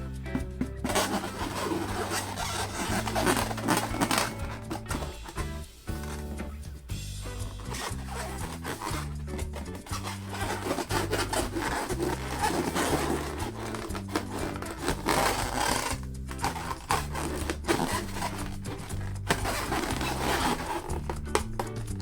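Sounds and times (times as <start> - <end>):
background music with bass line: 0.0 - 22.0
balloons rubbed and squeezed: 0.0 - 22.0.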